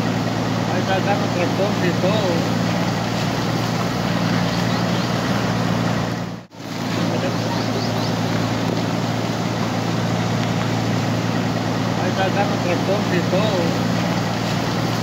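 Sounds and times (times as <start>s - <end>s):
river floodwater roaring: 0.0s - 15.0s.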